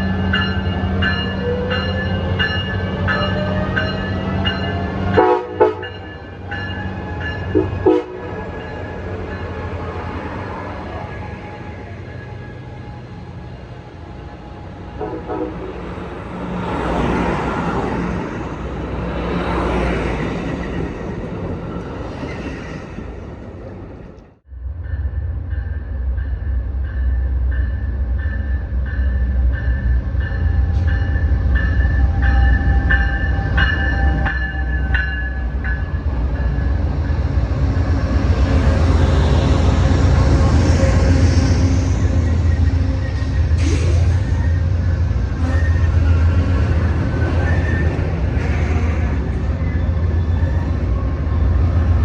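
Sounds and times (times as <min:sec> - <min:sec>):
diesel locomotive rumbling: 0:00.0 - 0:52.0
train rushing past: 0:00.0 - 0:52.0.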